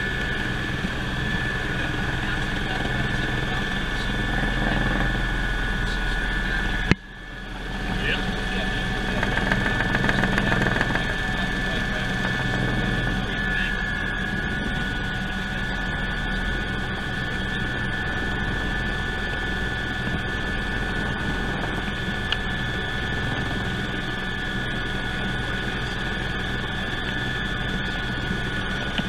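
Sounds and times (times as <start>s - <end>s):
helicopter cabin drone and whine: 0.0s - 29.0s.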